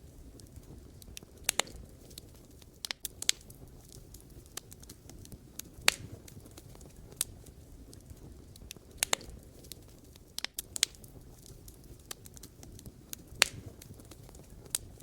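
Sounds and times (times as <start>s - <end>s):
burning logs popping and crackling: 0.0s - 15.0s
low rumble of fire: 0.0s - 15.0s.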